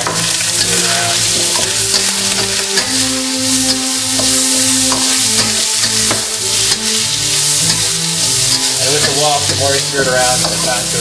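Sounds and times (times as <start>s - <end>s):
food sizzling in hot oil: 0.0s - 11.0s
spatula scraping a wok: 0.0s - 11.0s.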